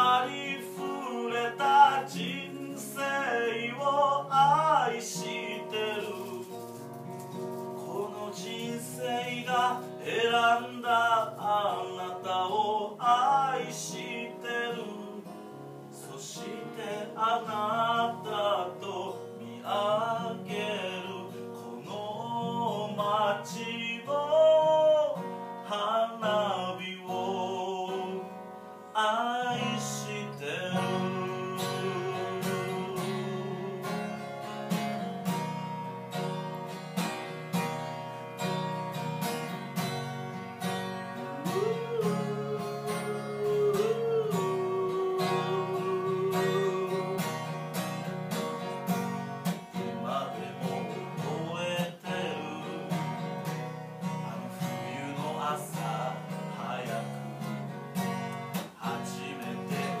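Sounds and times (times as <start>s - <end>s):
acoustic guitar strumming: 0.0s - 60.0s.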